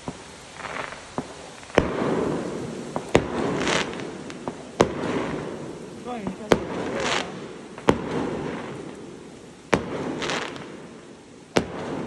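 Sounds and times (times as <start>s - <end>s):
faint firework pops: 0.0s - 9.1s, 9.7s - 10.9s, 11.5s - 12.0s
firework rumble and crackle: 0.0s - 12.0s
firework shells booming: 0.0s - 12.0s.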